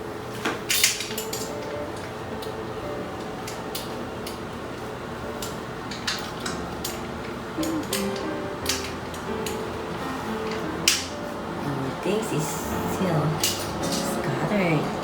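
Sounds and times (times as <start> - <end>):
soft background music: 0.7 - 15.0.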